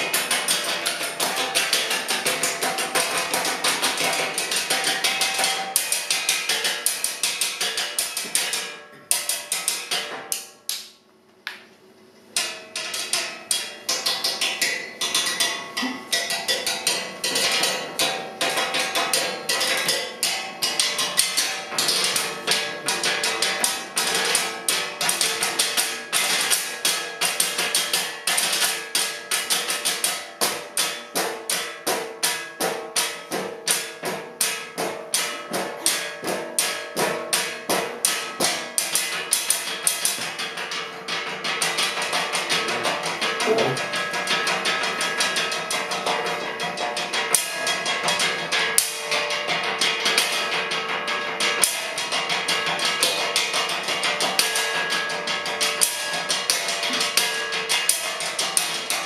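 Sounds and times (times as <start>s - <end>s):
percussion trio playing: 0.0s - 10.6s, 12.4s - 59.0s.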